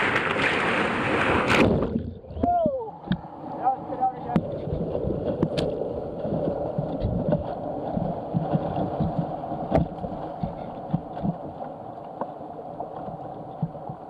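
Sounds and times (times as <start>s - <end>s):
rushing white water: 0.0s - 14.0s
waves splashing against hull: 0.0s - 14.0s.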